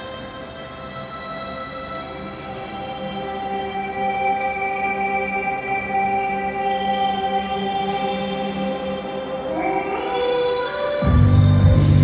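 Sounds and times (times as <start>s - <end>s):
music with soft held notes: 0.0s - 12.0s.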